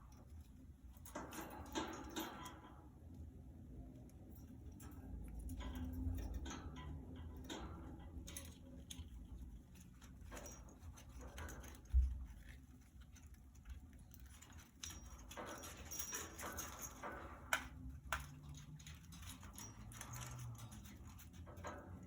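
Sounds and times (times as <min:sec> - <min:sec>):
claws and beaks tapping cage bars: 0:00.0 - 0:22.0.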